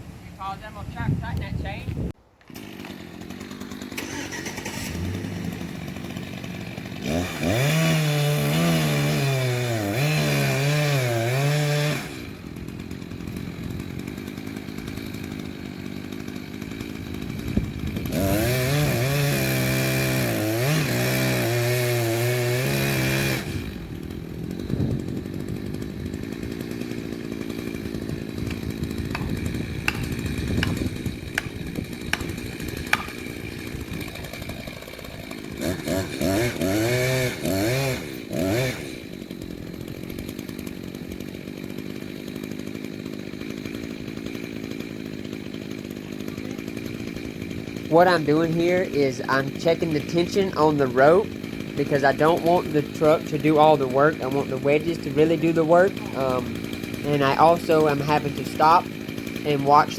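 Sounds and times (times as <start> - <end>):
chainsaw revving and idling: 2.4 - 59.9.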